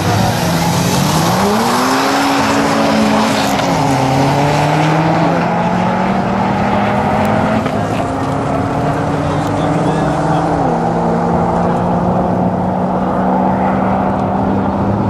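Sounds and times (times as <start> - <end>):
racing car engines accelerating: 0.0 - 15.0.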